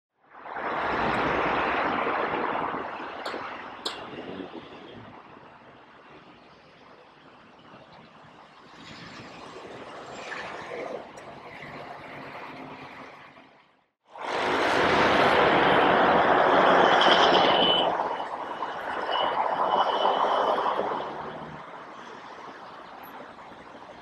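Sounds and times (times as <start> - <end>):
faint street traffic: 0.4 - 24.0.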